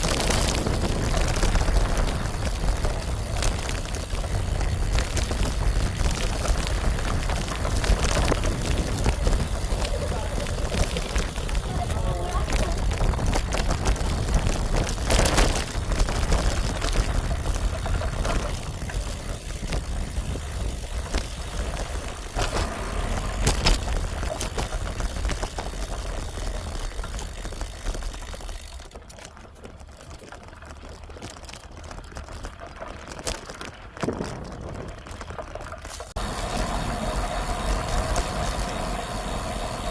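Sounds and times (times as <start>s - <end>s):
bicycle tyre road noise: 0.0s - 39.9s
wind rumbling on microphone: 0.0s - 39.9s.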